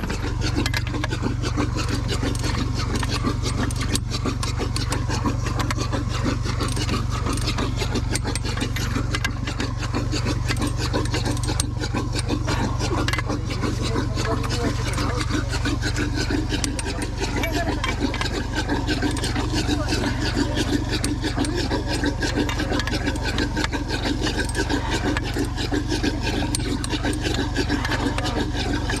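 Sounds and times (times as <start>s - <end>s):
excavator engine running: 0.0s - 29.0s
small clicks and rattles: 0.0s - 29.0s.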